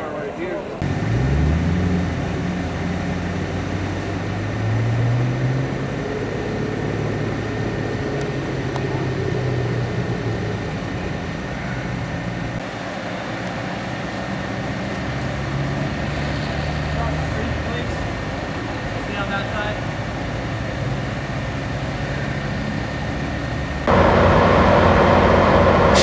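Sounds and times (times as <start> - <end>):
large engine running: 0.8 - 26.0.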